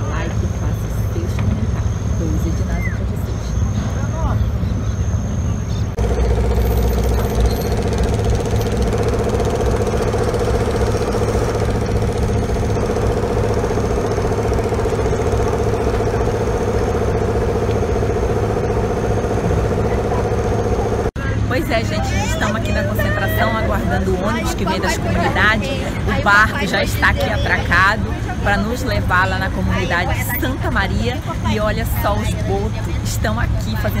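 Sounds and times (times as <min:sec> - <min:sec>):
engine droning steadily: 0:00.0 - 0:34.0.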